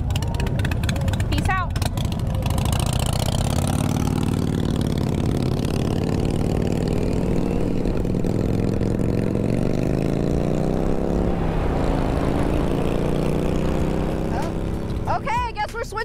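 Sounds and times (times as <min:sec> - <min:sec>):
motorcycle engine accelerating: 0:00.0 - 0:15.6.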